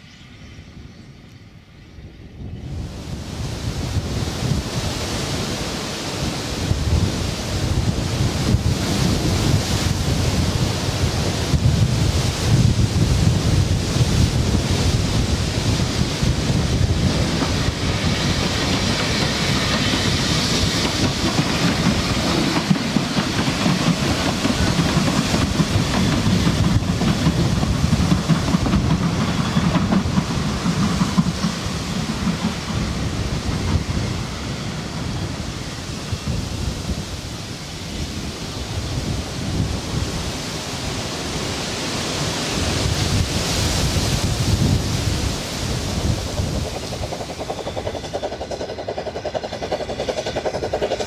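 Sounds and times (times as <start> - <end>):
steam train coaches clattering on track: 3.9 - 51.0.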